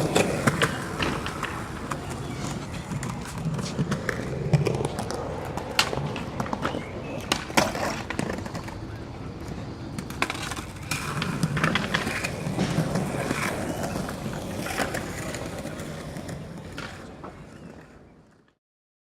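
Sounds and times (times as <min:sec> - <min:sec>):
skateboard clacks and knocks: 0:00.0 - 0:18.6
skateboard wheels rumbling: 0:00.0 - 0:18.6.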